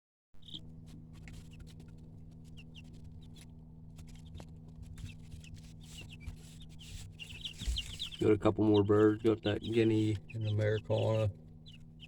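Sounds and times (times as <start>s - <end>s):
chicks peeping: 0.4s - 12.0s
steady low hum: 0.4s - 12.0s.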